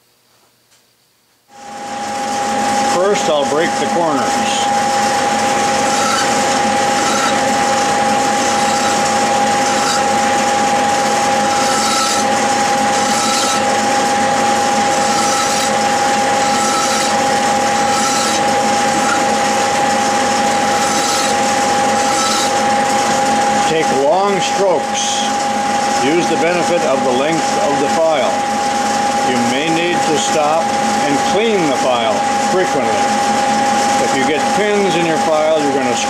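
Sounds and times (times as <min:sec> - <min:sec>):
metal lathe whining: 0:01.6 - 0:36.0
file scraping steel shaft: 0:03.0 - 0:36.0.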